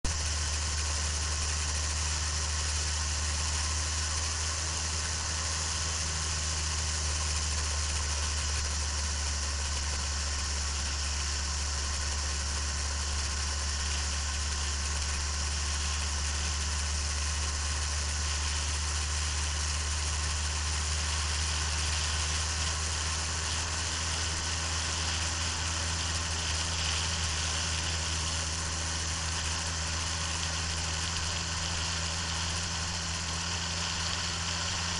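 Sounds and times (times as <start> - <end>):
vehicle engine drone: 0.0 - 34.9.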